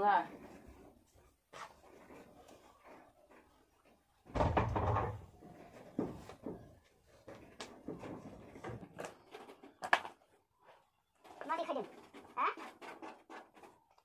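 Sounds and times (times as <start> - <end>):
objects knocking and rustling: 0.0 - 14.0.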